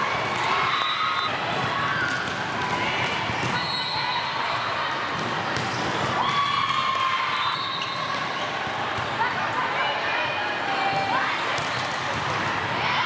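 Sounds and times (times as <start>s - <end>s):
volleyballs hitting and bouncing: 0.0s - 3.8s, 4.4s - 9.3s, 10.8s - 13.0s.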